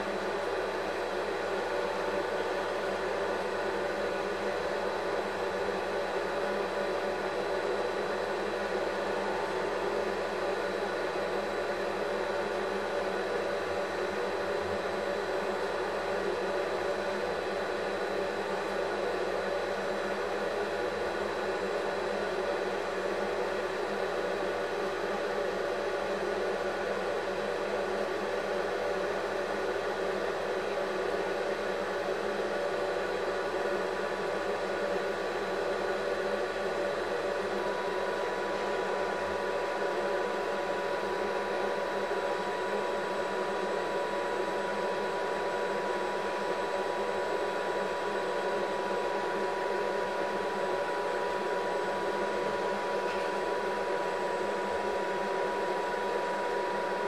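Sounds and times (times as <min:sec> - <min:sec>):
mechanical whirring hum: 0:00.0 - 0:57.0.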